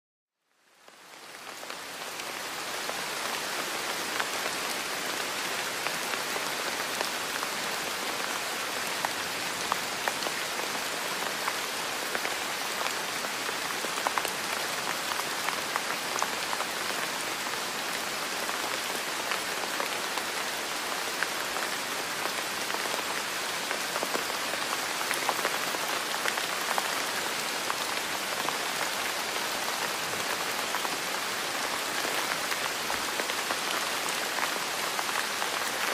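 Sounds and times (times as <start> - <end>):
steady rain hiss: 0.4 - 35.9.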